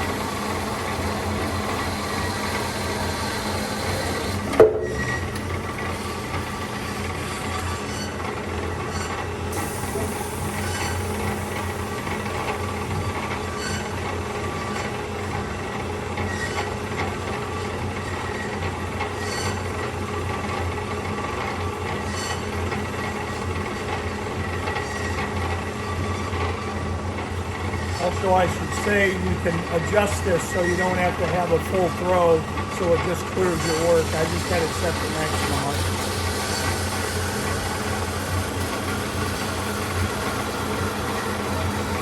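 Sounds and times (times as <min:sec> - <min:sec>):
band saw motor hum and whine: 0:00.0 - 0:42.0.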